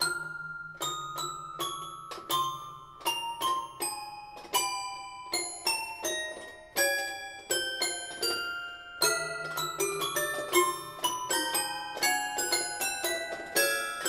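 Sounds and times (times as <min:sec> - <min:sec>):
toy piano notes: 0:00.0 - 0:14.0.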